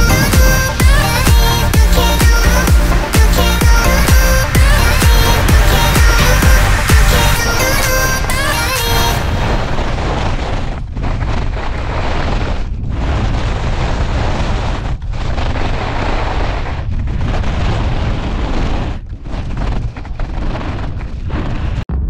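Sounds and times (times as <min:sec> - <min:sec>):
wind buffeting microphone: 0:01.6 - 0:21.8
skis scraping on snow: 0:02.4 - 0:21.8.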